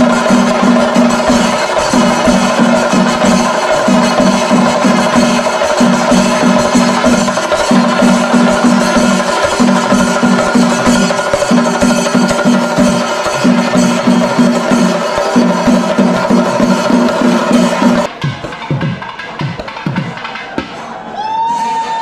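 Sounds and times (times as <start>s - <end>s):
drums beating quick phrases: 0.0s - 21.9s
cymbals clashing: 0.0s - 22.0s.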